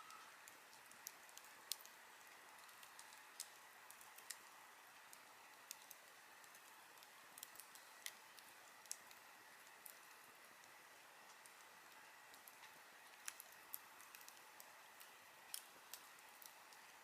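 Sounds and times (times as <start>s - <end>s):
campfire crackling and popping: 0.0s - 17.0s
faint steady hiss: 0.0s - 17.0s.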